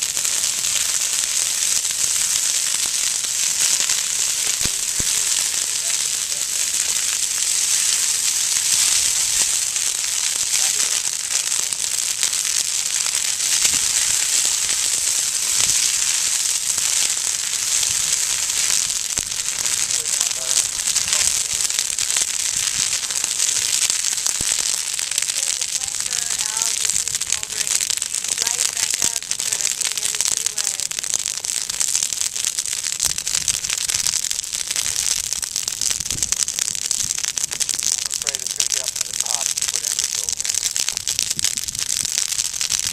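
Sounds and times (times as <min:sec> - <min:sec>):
brush fire crackling: 0:00.0 - 0:42.9.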